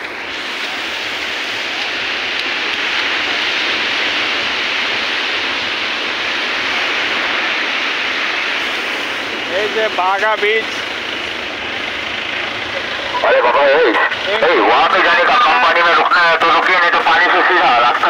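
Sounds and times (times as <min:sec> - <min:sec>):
ocean surf washing on sand: 0:00.0 - 0:18.0.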